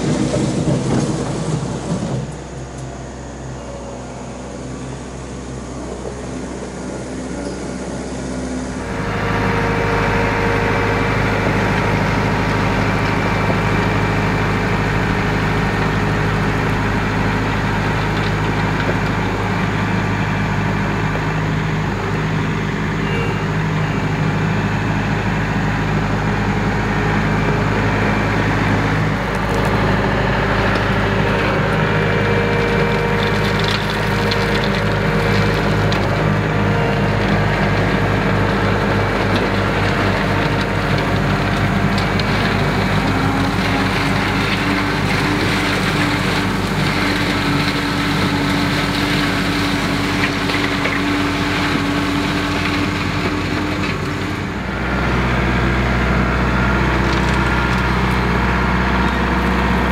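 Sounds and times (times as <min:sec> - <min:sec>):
diesel tractor engine under load: 0:00.0 - 0:59.9
gravel crunching and scraping: 0:05.9 - 0:59.9.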